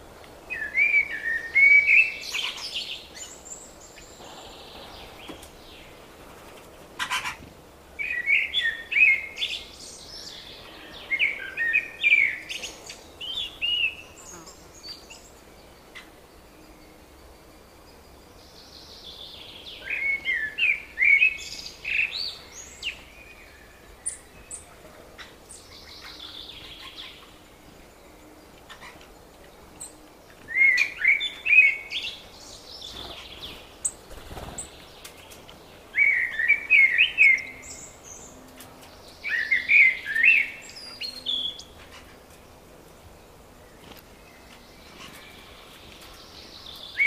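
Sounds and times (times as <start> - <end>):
songbird warbling song: 0.0 - 47.0.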